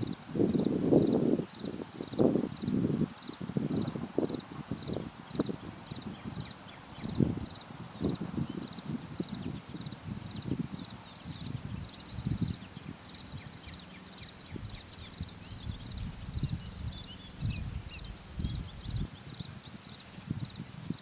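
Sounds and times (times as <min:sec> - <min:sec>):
pulsing insect chorus: 0:00.0 - 0:21.0.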